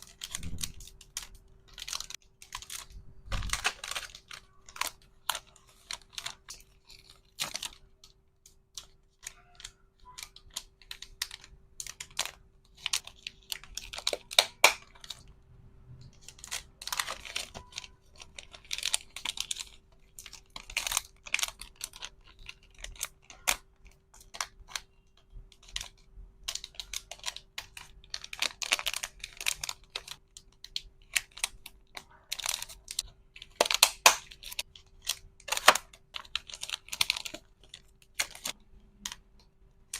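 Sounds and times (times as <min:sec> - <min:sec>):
small plastic items clicking: 0:00.0 - 0:15.3, 0:16.0 - 0:39.9
plastic wrapping rustling: 0:00.0 - 0:39.9.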